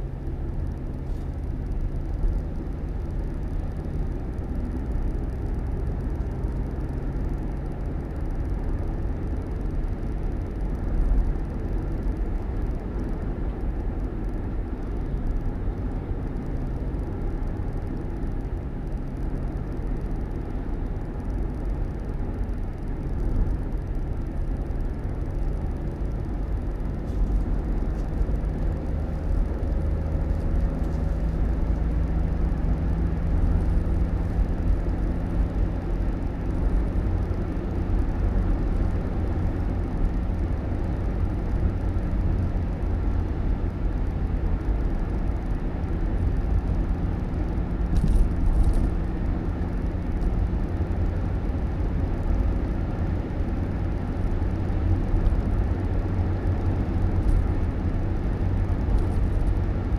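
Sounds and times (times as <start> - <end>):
motor vehicle rumble: 0.0 - 59.9.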